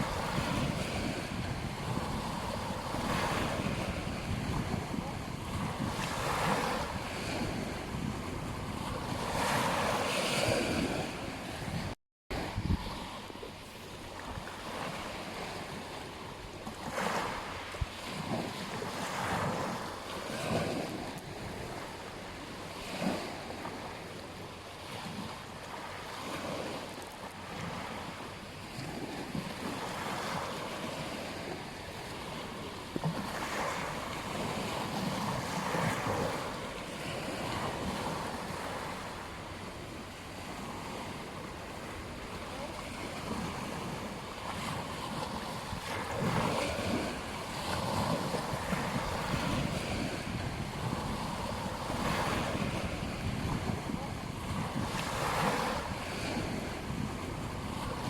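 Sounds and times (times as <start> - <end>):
ocean waves breaking on beach: 0.0 - 58.0
wind: 0.0 - 58.0.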